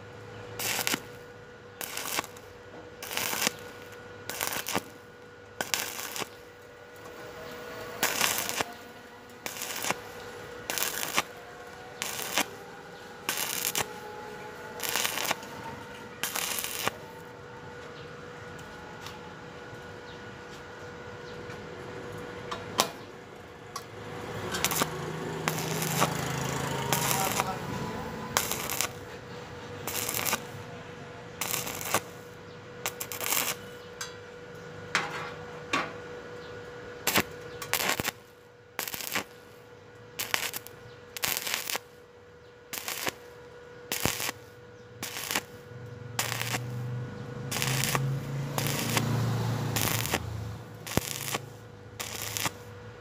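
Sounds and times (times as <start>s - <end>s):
welding arc crackling: 0.0s - 17.3s, 23.4s - 33.8s, 37.0s - 42.1s, 42.7s - 53.0s
faint steady hum: 0.0s - 53.0s.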